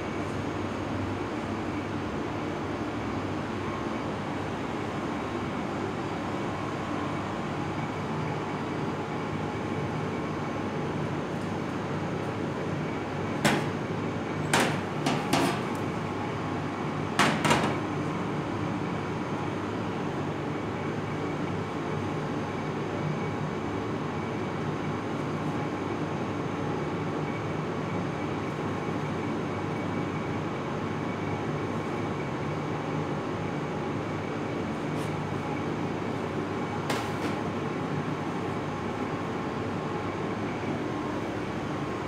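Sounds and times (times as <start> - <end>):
steady kitchen hum: 0.0 - 42.0.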